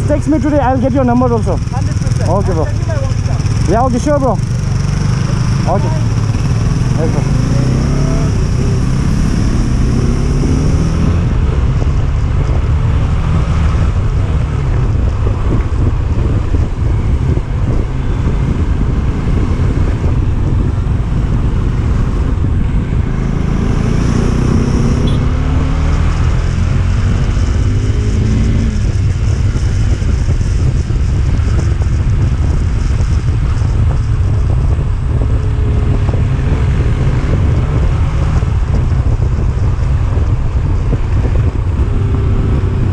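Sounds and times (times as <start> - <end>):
motorcycle engine revving: 0.0 - 42.9
wind noise on microphone: 0.0 - 42.9.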